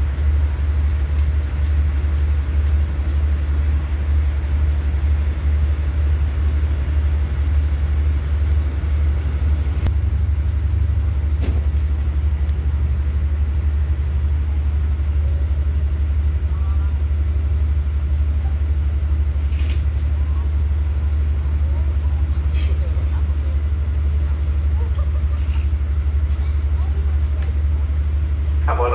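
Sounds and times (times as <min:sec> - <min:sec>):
diesel train idling: 0:00.0 - 0:28.9.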